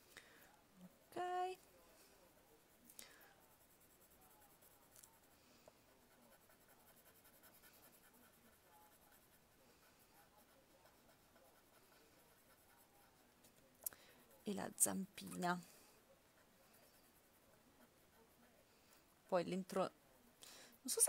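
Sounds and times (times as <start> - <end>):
pencil scratching on paper: 1.7 - 19.0.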